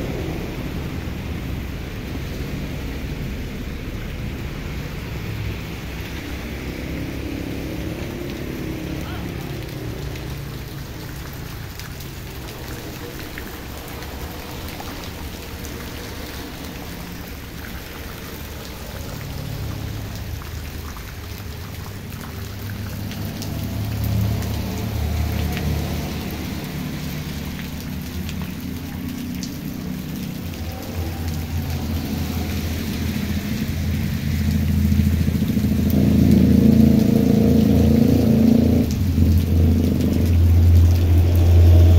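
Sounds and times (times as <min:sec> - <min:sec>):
heavy rain on wet ground: 0:00.0 - 0:41.9.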